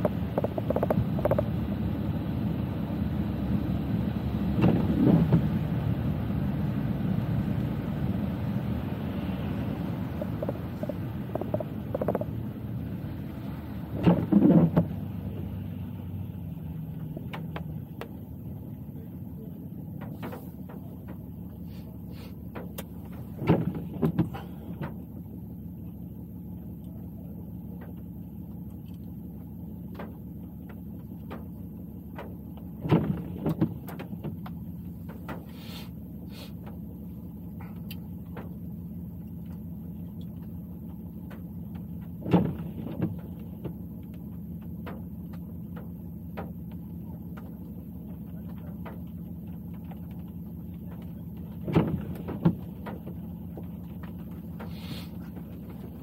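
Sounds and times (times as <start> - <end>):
windshield wiper sweeping: 0.0 - 26.4, 27.5 - 56.0
low hum of engine and tyres: 0.0 - 56.0.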